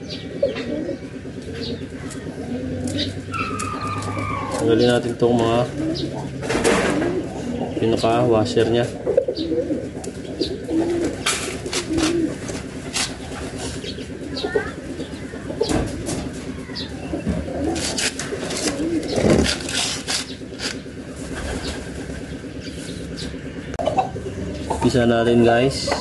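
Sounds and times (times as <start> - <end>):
doves cooing: 0.0 - 26.0.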